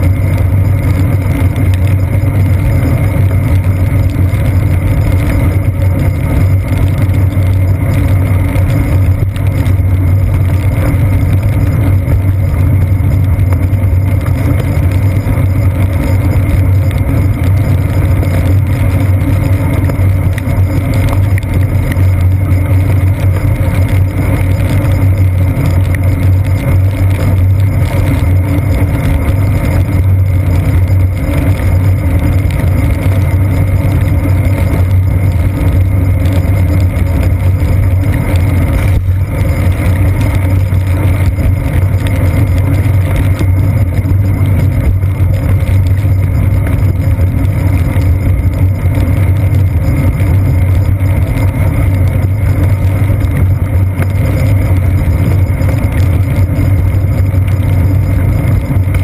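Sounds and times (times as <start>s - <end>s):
wind and road rumble: 0.0s - 59.0s.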